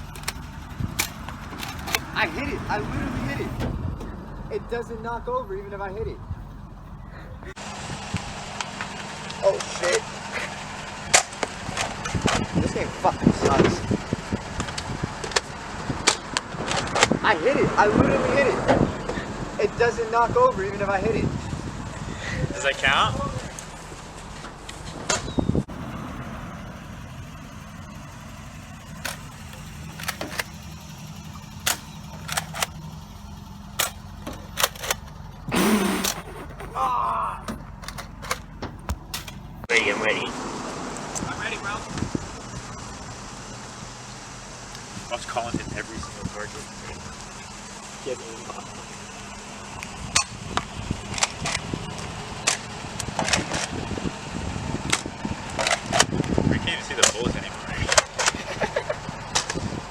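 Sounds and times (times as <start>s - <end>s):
car running hum: 0.0s - 59.9s.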